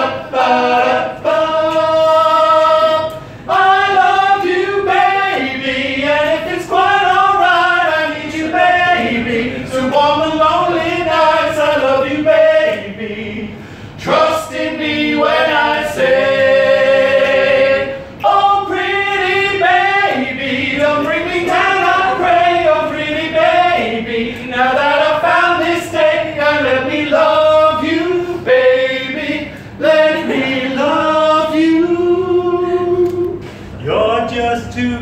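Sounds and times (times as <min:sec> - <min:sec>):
male singers singing a cappella: 0:00.0 - 0:35.0.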